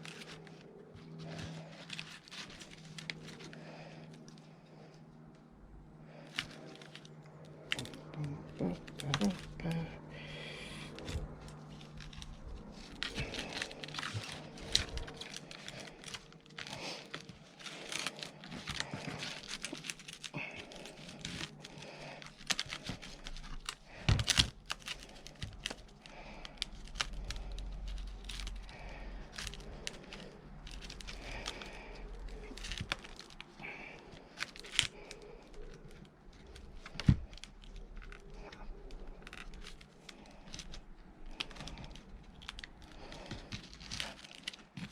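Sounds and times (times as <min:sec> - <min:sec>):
rope rustling and scraping: 0:00.0 - 0:05.4, 0:06.1 - 0:44.9.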